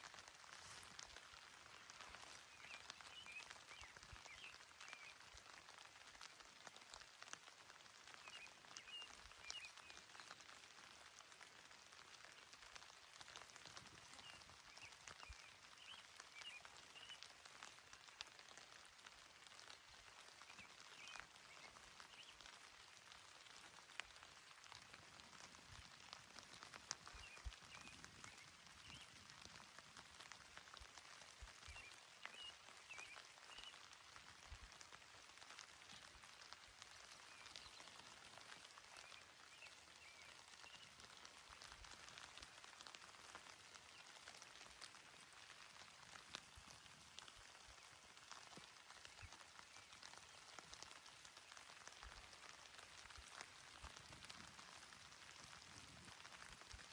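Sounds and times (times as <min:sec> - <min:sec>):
gentle rain hissing: 0:00.0 - 0:56.9
raindrops ticking: 0:00.0 - 0:56.9.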